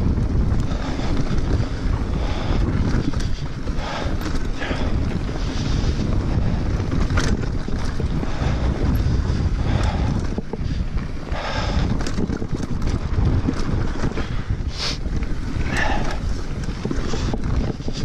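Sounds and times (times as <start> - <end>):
sharp clicks from bike: 0.0 - 18.0
tyres rolling over dirt: 0.0 - 18.0
wind buffeting microphone: 0.0 - 18.0.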